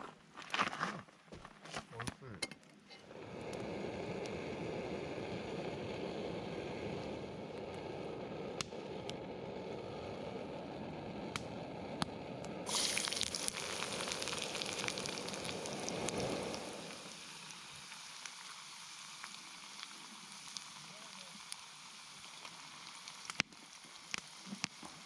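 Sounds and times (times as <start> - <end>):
meat sizzling on a griddle: 3.3 - 11.3, 12.6 - 25.0.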